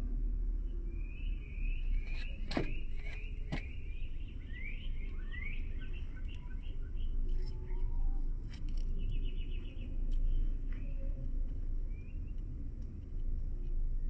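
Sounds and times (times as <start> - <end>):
steady low rumble: 0.0 - 14.0
small birds chirping: 0.6 - 14.0.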